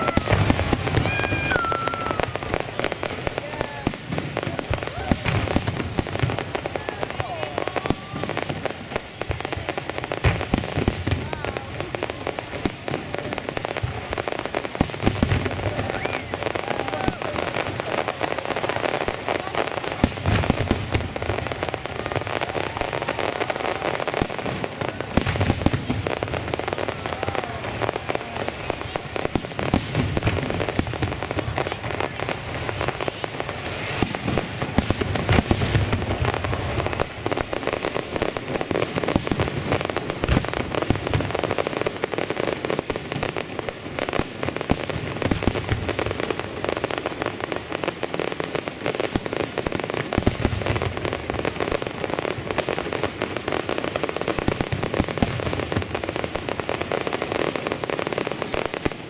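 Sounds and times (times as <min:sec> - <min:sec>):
crackling firework stars: 0:00.0 - 0:59.0.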